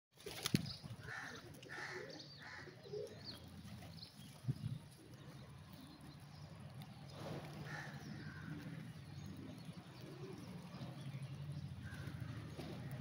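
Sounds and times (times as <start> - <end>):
pigeons cooing: 0.9 - 13.0.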